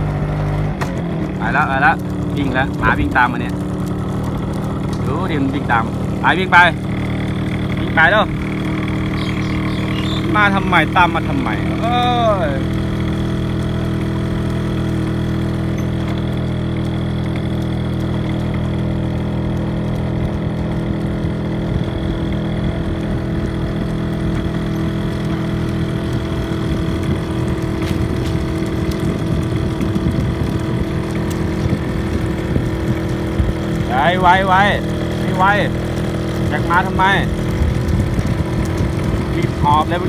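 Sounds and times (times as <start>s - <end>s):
road noise: 0.0s - 40.0s
vehicle engine running: 0.0s - 40.0s.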